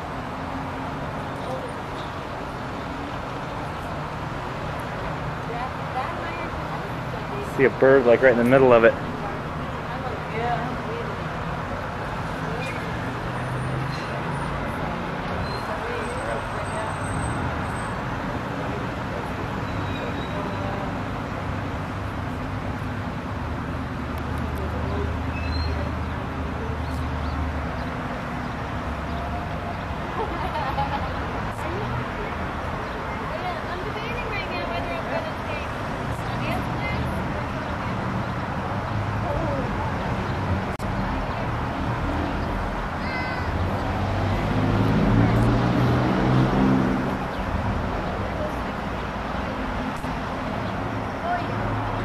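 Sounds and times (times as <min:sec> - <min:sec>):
distant road traffic rumble: 0:00.0 - 0:52.0.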